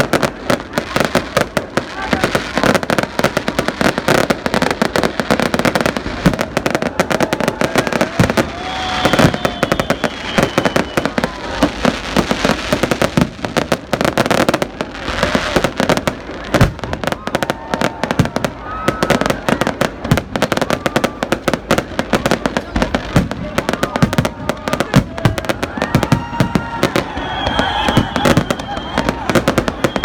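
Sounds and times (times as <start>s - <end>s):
fireworks crackling and popping: 0.0s - 30.0s
fireworks whistling: 0.0s - 30.0s.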